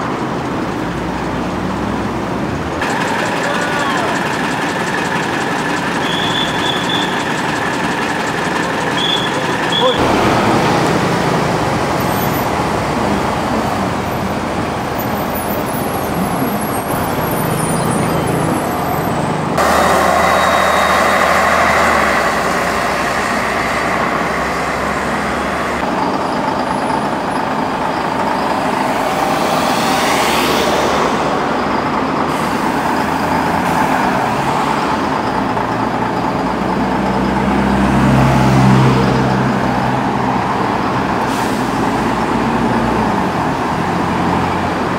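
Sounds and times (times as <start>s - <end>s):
diesel bus engines: 0.0s - 44.9s
tyre and road noise: 0.0s - 44.9s.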